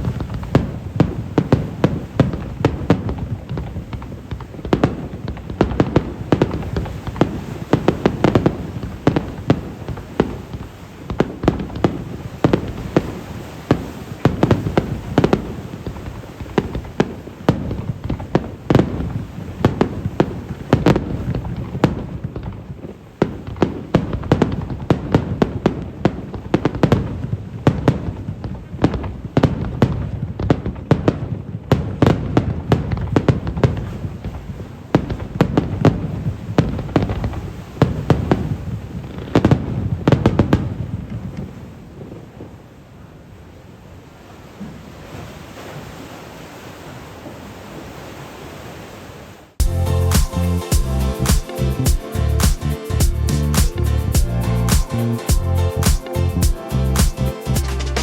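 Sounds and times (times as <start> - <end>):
fireworks bangs and crackling: 0.0 - 42.7, 49.6 - 58.0.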